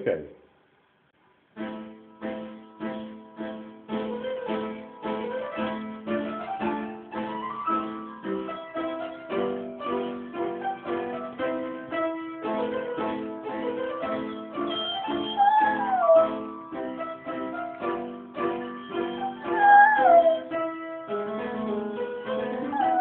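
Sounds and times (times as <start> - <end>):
piano playing simple tune: 1.5 - 23.0.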